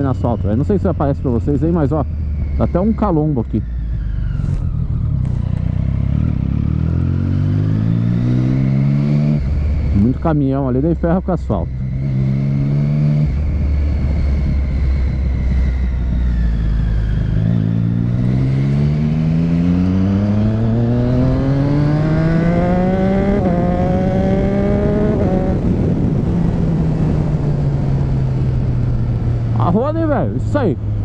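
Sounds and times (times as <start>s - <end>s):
motorcycle engine accelerating: 0.0s - 31.0s
wind and road rush: 0.0s - 31.0s.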